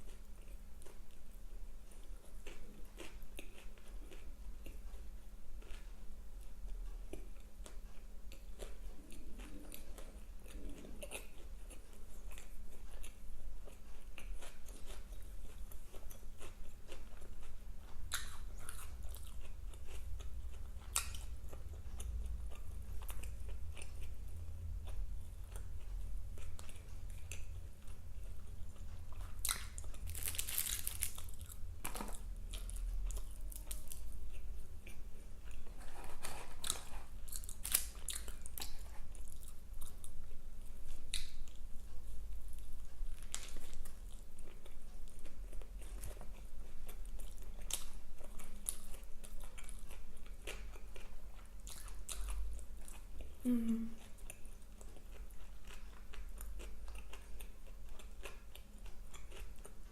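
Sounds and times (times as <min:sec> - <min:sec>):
person chewing and biting food: 0:06.6 - 0:59.9.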